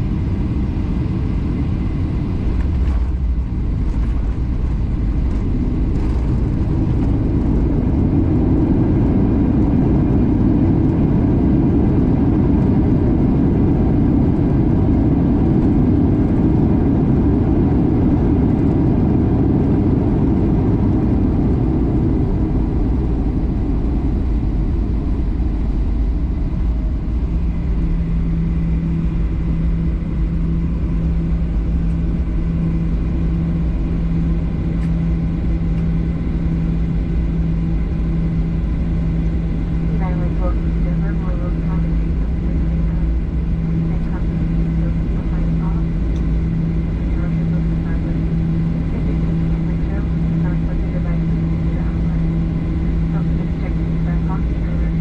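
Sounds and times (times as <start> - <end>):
jet engine and air rumble: 0.0 - 55.0
low hum: 0.0 - 55.0.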